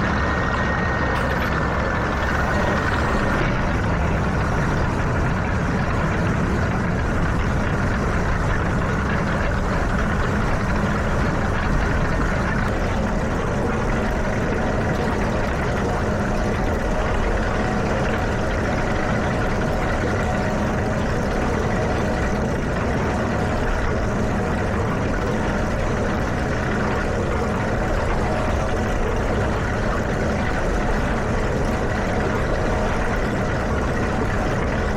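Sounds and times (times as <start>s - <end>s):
tractor engine running steadily: 0.0s - 34.9s.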